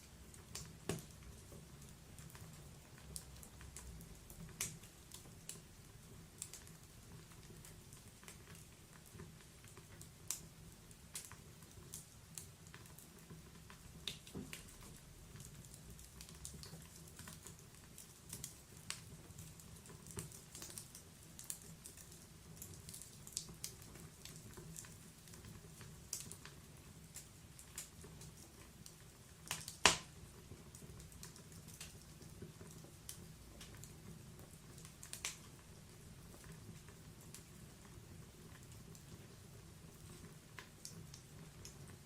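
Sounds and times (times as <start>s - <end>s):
log fire crackling and popping: 0.0s - 42.0s.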